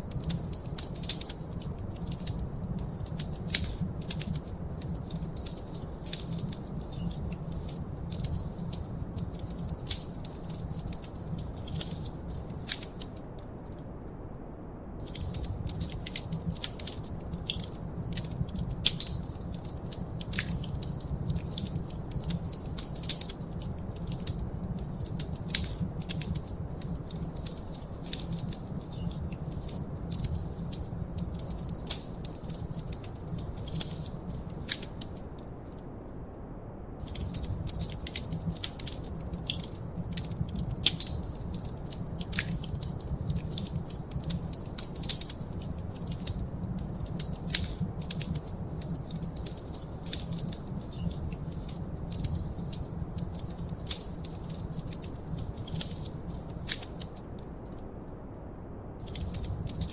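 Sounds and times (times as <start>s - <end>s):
wood fire crackling: 0.0s - 14.1s, 15.0s - 36.2s, 37.0s - 58.3s, 59.0s - 59.9s
low rumble of flames: 0.0s - 59.9s.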